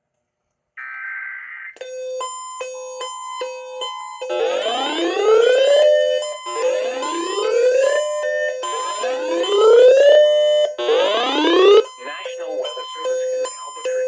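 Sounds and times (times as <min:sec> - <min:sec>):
steady beeping tones: 0:01.7 - 0:14.0.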